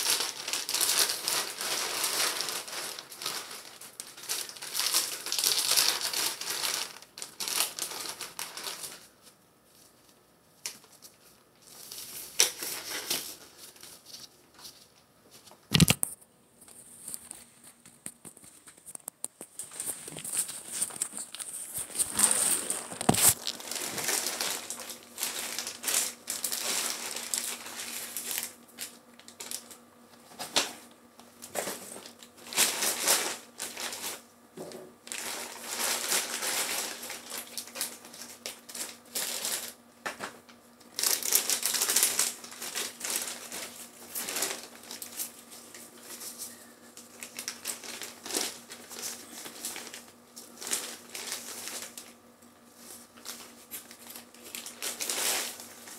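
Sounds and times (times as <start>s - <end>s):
plastic packaging crinkling: 0.0s - 16.1s, 16.7s - 34.3s, 35.0s - 55.9s.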